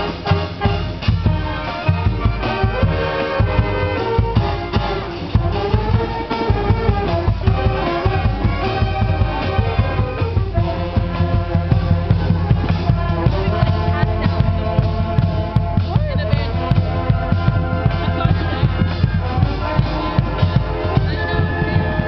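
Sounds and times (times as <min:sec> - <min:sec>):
brass band playing a tune: 0:00.0 - 0:22.0
steady drum beat: 0:00.0 - 0:22.0.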